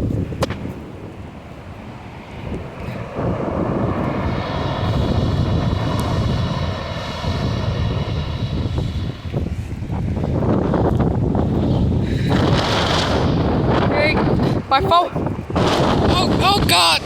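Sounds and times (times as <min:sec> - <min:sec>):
wind buffeting microphone: 0:00.0 - 0:17.0
steady high whine: 0:01.2 - 0:16.2.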